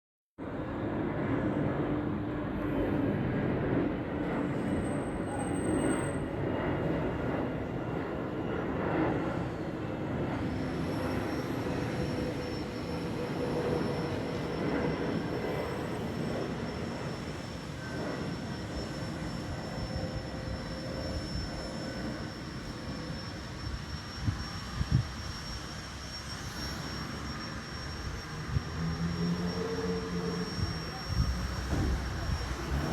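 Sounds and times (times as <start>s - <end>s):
jet engines rumbling: 0.4s - 32.9s
high steady whine: 4.4s - 32.9s.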